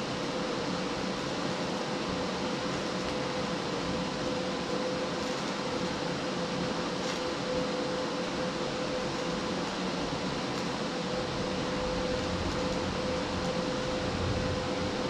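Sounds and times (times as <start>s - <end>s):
welder hissing and whining: 0.0s - 15.0s.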